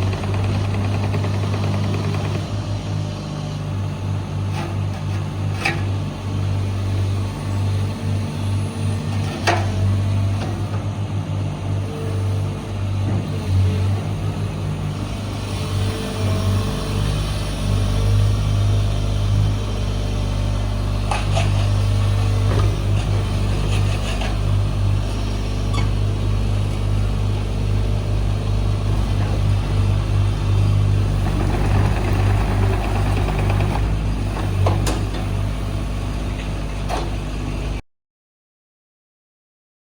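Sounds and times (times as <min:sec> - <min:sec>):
diesel engine running: 0:00.0 - 0:37.8.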